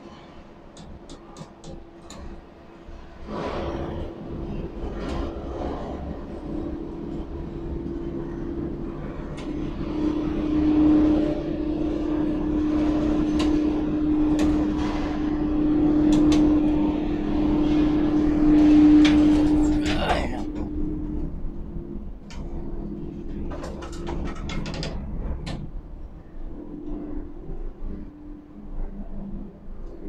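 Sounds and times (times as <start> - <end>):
crane electric whine: 0.0 - 30.0
low industrial rumble: 0.0 - 30.0.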